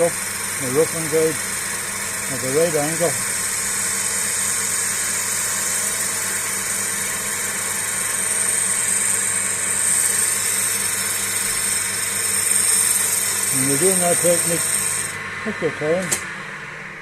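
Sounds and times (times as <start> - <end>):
gouge cutting wood shavings: 0.0 - 15.2
lathe motor humming: 0.0 - 17.0.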